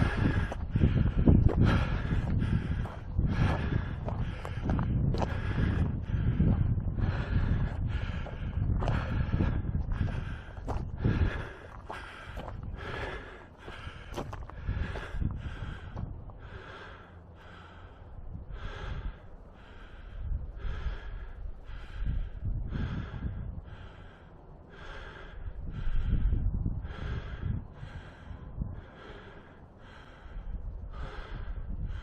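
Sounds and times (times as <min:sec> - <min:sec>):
low rumble: 0:00.0 - 0:32.0
man breathing hard: 0:00.0 - 0:32.0.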